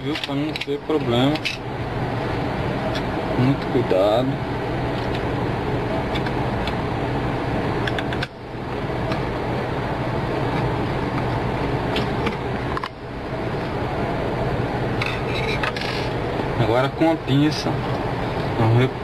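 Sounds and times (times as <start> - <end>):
fan humming and hissing: 0.0 - 19.0.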